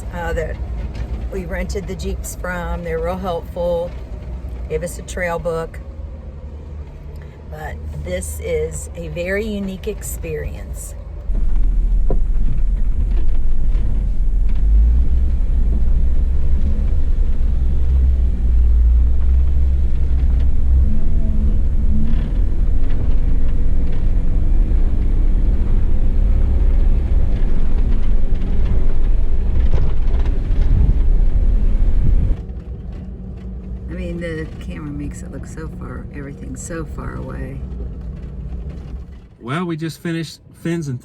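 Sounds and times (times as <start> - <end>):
off-road vehicle rumbling: 0.0 - 41.0.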